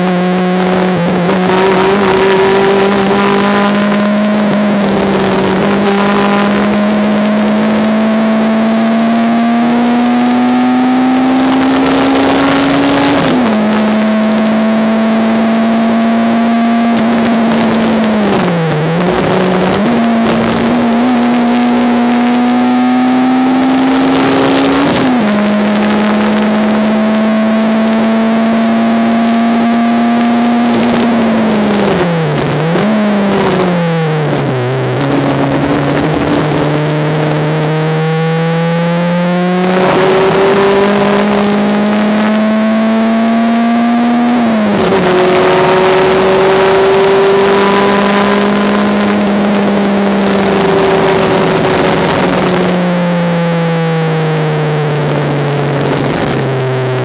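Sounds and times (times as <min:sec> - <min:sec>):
race car engine at full throttle: 0:00.0 - 0:57.0
road noise: 0:00.0 - 0:57.0
wind noise: 0:00.0 - 0:57.0.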